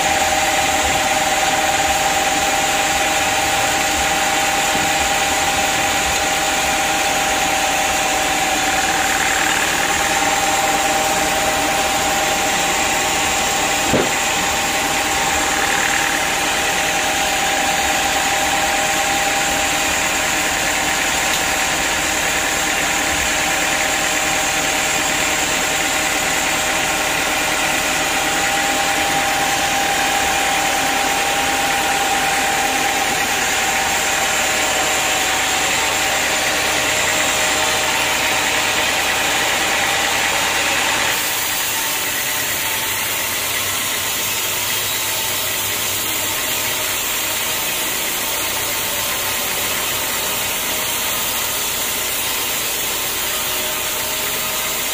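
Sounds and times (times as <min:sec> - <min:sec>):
band saw cutting log: 0:00.0 - 0:54.9.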